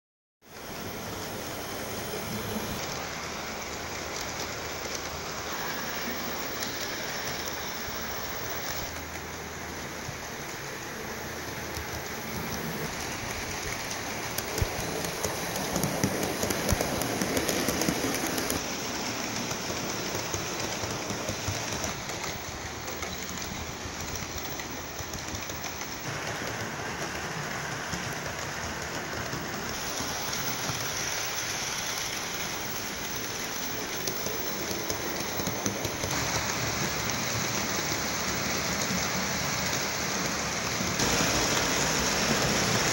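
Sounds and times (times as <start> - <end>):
model trains rolling: 0.5 - 42.9
wheels clicking over rail joints: 2.4 - 42.9.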